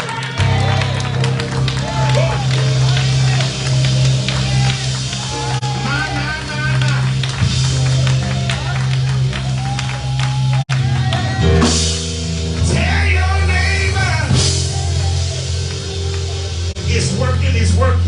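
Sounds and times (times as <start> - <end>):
gospel band with held chords: 0.0 - 18.0.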